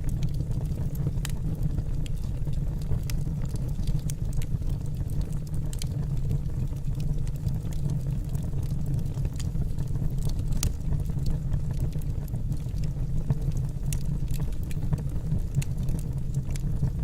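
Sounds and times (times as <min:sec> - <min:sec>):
burning wood crackling and popping: 0:00.0 - 0:17.0
fire rumbling: 0:00.0 - 0:17.0.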